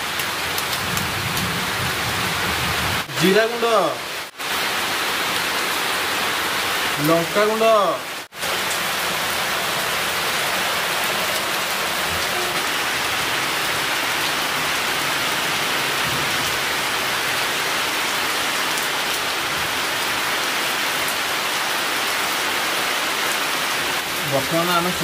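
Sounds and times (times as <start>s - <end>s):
rain falling on trees: 0.0s - 25.0s.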